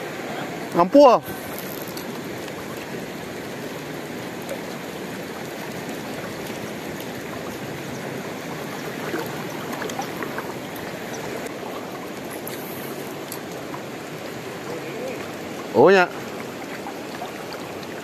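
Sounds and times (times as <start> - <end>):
river current rushing: 0.0 - 18.0.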